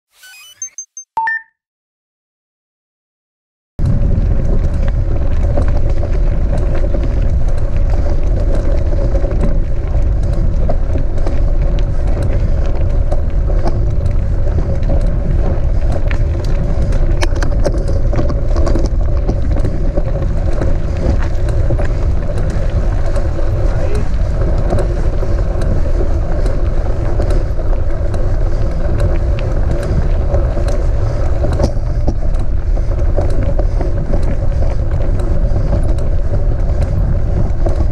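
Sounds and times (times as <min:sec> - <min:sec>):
bike clicks and rattles: 0:03.8 - 0:37.9
wind and rolling rumble on microphone: 0:03.8 - 0:37.9.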